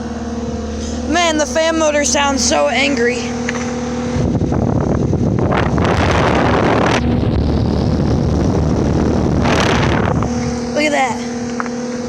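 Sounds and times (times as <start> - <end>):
air buffeting microphone: 0.0 - 11.7
condenser fan motor droning: 0.0 - 12.0.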